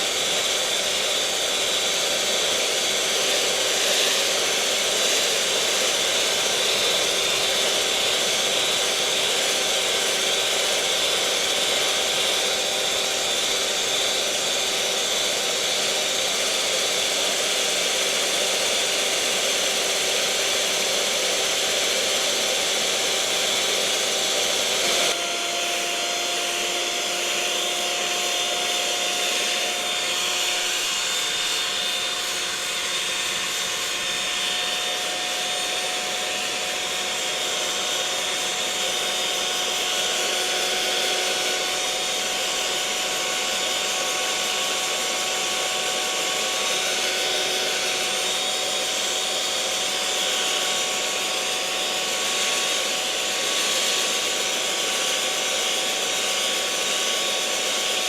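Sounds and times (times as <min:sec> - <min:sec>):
electric mixer motor whirring: 0:00.0 - 0:58.0.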